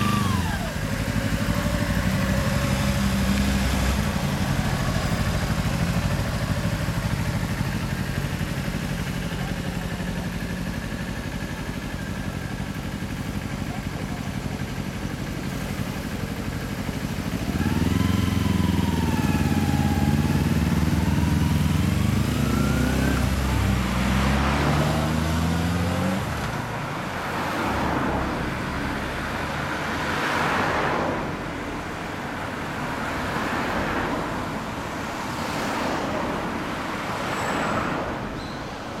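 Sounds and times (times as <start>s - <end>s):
motorcycles accelerating: 0.0s - 31.4s
passing road traffic: 0.0s - 39.0s.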